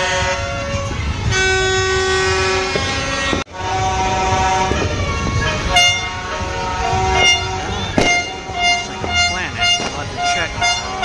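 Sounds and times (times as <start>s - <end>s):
horns blowing steady tones: 0.0s - 11.0s.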